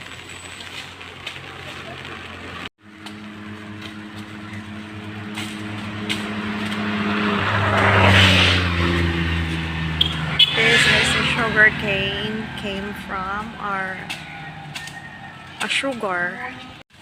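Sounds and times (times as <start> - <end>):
vehicle engine running: 0.0 - 16.8.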